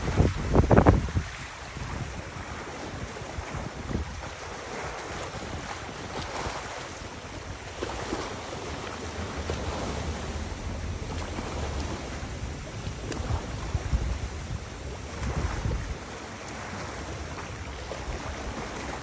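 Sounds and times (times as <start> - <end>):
river water rushing: 0.0 - 19.0
wind buffeting microphone: 0.0 - 19.0.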